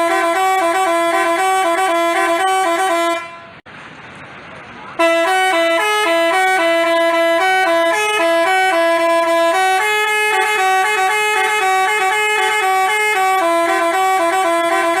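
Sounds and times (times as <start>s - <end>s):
multi-tone horn melody: 0.0s - 3.6s, 5.0s - 15.0s.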